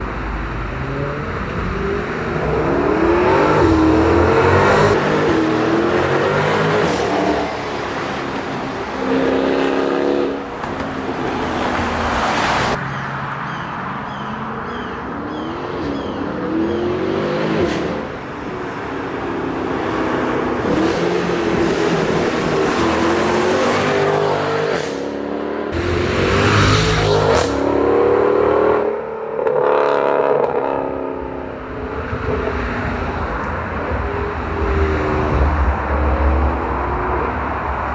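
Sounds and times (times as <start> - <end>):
car engine revving and accelerating: 0.0 - 12.8, 19.2 - 37.9.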